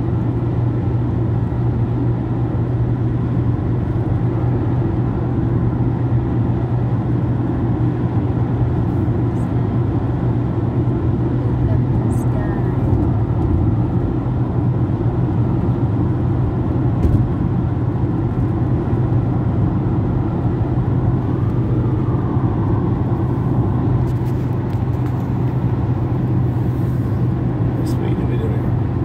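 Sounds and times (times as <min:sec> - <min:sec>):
car engine and tyres droning: 0:00.0 - 0:29.0.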